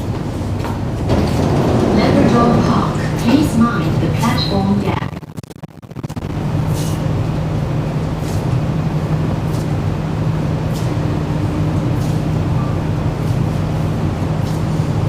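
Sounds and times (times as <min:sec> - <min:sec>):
train hum and rumble: 0:00.0 - 0:05.2, 0:06.0 - 0:15.0.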